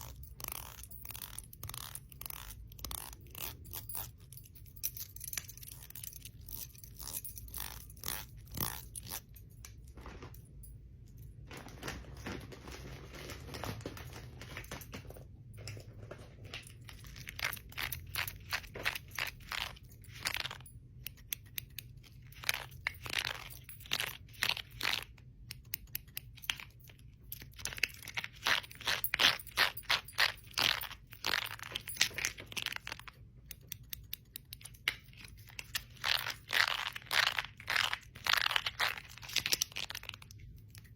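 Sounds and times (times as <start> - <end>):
bangles and rings clinking: 0.0 - 11.4, 14.6 - 40.9.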